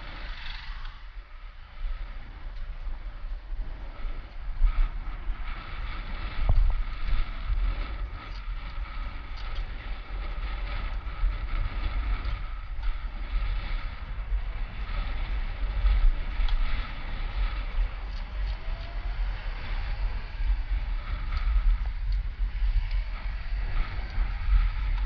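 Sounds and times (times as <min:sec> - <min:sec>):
wind buffeting camera microphone: 0:00.0 - 0:25.0.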